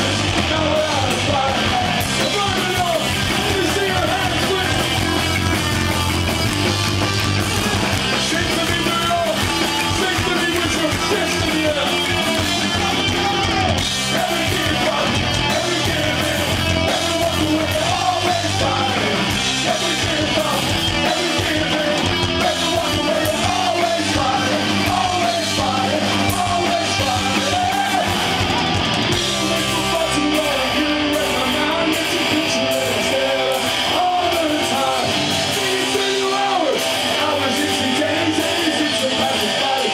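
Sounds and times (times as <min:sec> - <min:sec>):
singer shouting vocals: 0:00.0 - 0:06.4, 0:07.2 - 0:39.9
bass guitar: 0:00.0 - 0:39.9
distorted electric guitars: 0:00.0 - 0:39.9
drums: 0:00.0 - 0:39.9.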